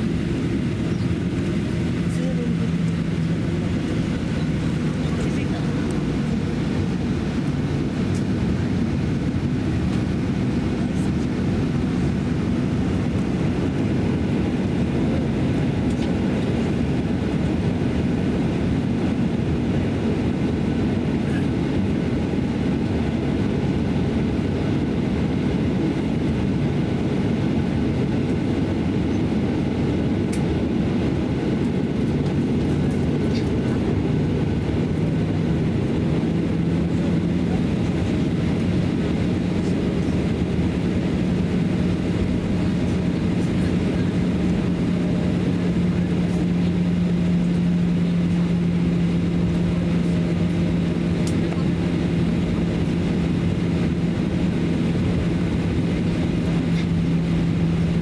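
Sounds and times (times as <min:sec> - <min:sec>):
engine rumble in aircraft cabin: 0:00.0 - 0:58.0.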